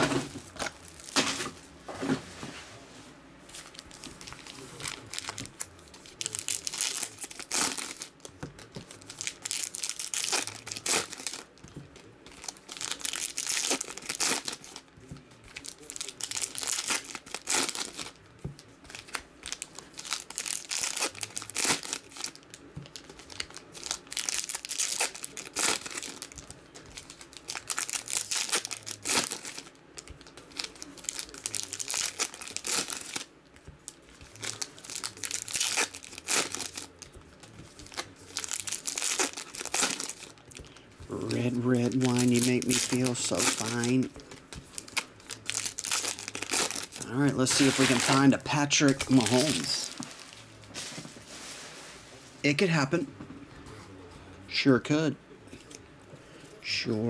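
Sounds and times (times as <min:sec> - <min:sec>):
foil wrappers torn and crinkled: 0:03.6 - 0:18.2, 0:18.8 - 0:33.3, 0:33.9 - 0:50.9.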